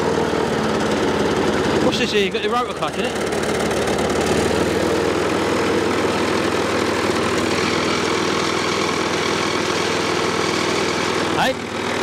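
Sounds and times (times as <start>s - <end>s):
lawn mower engine chugging: 0.0s - 12.0s.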